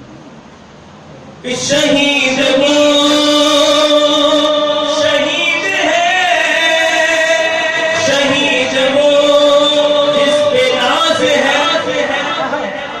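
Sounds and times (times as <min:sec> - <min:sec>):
man singing into microphone: 0:01.4 - 0:13.0.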